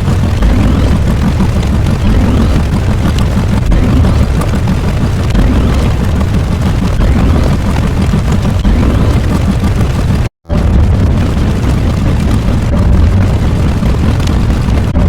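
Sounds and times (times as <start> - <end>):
loud deep rumbling: 0.0 - 15.0.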